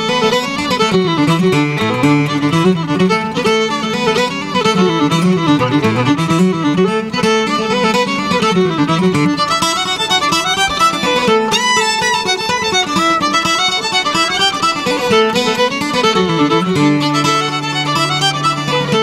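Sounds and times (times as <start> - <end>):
acoustic guitar rhythm: 0.0 - 19.0
bowed fiddle melody: 0.0 - 19.0.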